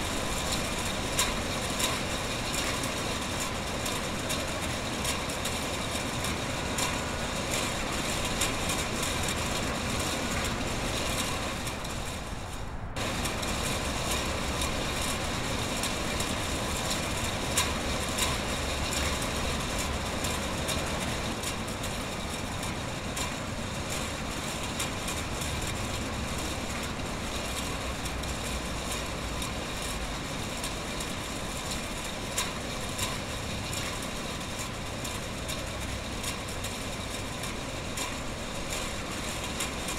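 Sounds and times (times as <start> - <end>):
production line mechanical hum: 0.0 - 39.9.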